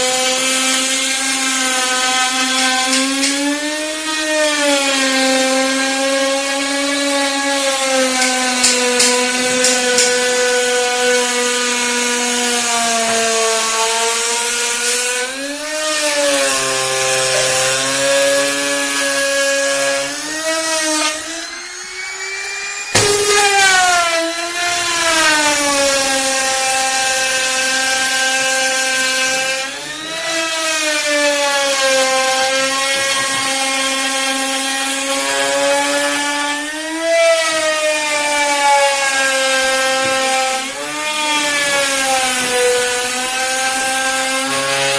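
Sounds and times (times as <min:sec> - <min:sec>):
power tool cutting wood: 0:00.0 - 0:44.9.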